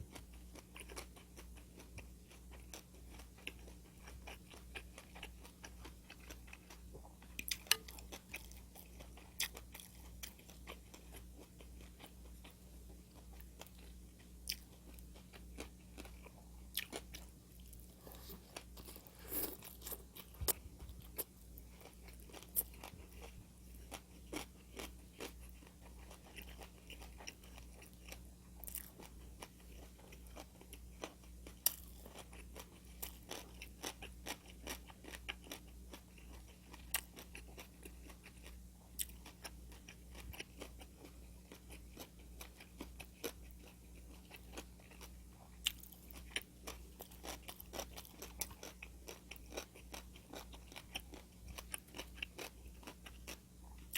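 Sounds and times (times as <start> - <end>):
chewing and crunching food: 0.0 - 53.9
faint low hum: 0.0 - 53.9.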